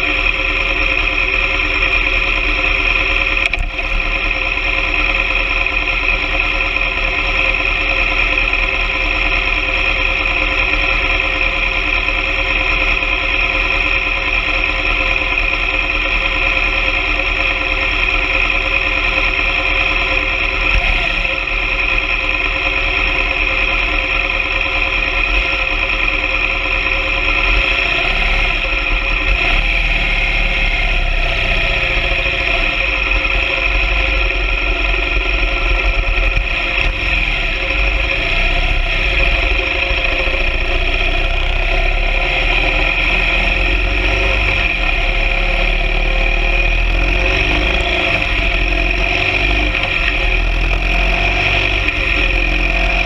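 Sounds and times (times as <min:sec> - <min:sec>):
motorcycle engine droning with whine: 0:00.0 - 0:53.0.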